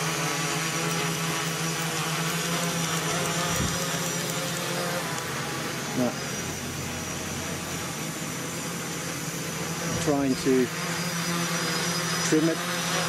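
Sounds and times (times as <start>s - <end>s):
quadcopter motors whirring: 0.0s - 13.0s.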